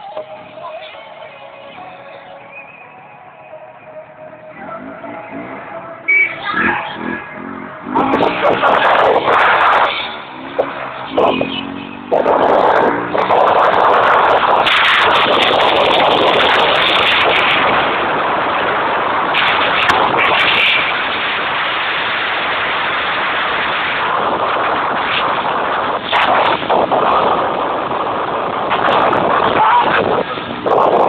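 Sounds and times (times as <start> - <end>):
distorted wind and road noise: 0.0 - 31.0.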